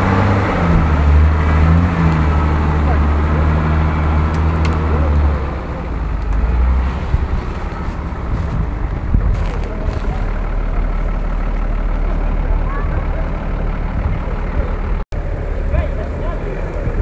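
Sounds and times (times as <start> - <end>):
suv engine under load: 0.0 - 17.0.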